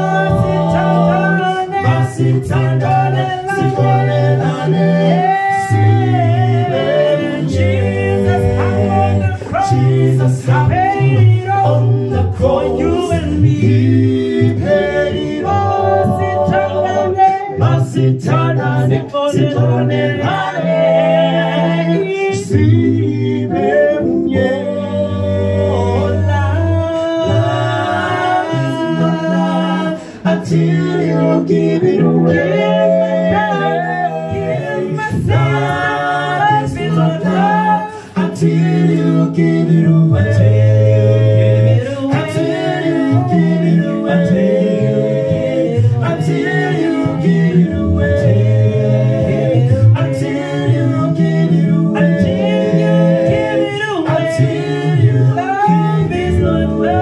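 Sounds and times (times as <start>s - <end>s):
male vocal group singing in harmony: 0.0s - 57.0s.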